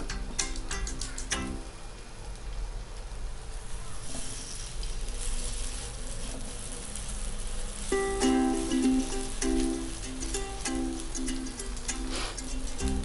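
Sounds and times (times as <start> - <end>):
batter sizzling in hot oil: 0.1 - 13.0.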